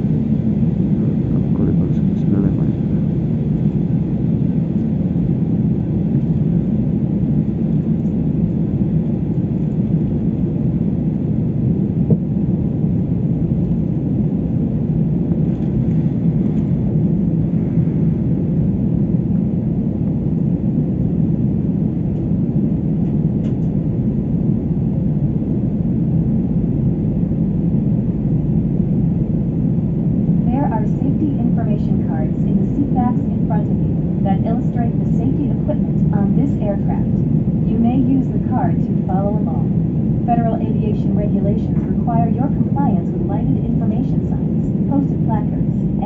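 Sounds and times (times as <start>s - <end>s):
jet cabin rumble while taxiing: 0.0s - 46.0s.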